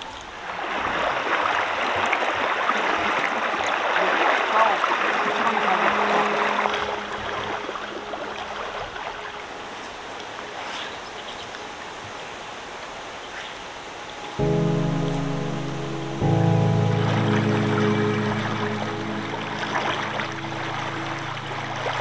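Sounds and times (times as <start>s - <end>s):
stream water rushing and splashing: 0.0s - 22.0s.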